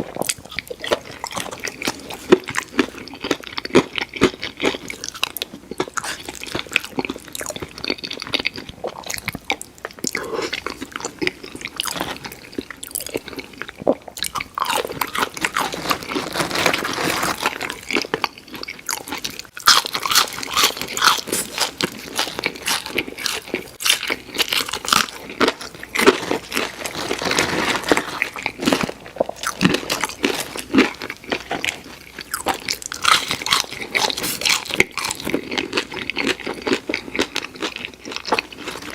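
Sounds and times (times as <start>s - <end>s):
crunchy bites and chewing: 0.0s - 38.9s.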